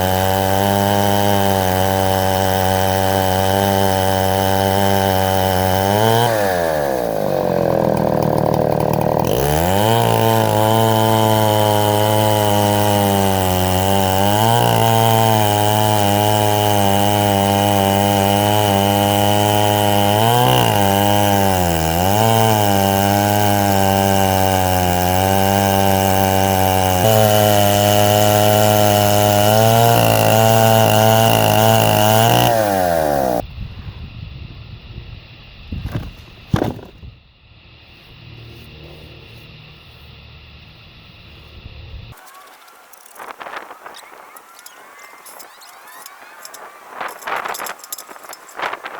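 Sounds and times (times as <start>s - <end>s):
chainsaw cutting wood: 0.0s - 33.4s, 35.7s - 37.2s, 42.1s - 48.9s.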